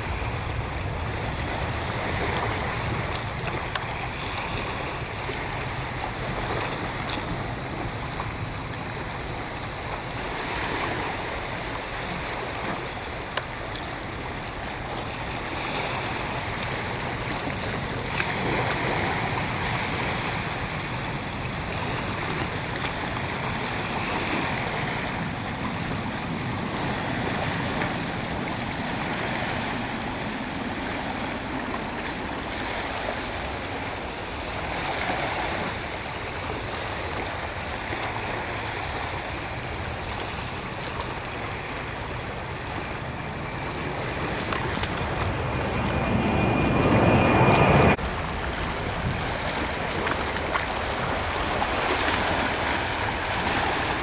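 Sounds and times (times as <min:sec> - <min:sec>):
waves washing over rocks: 0:00.0 - 0:54.0.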